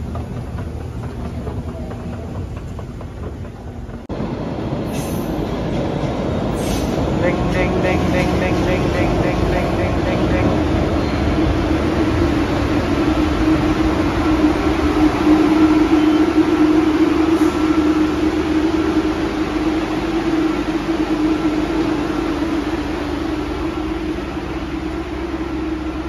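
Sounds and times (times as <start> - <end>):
subway train humming: 0.0 - 26.0.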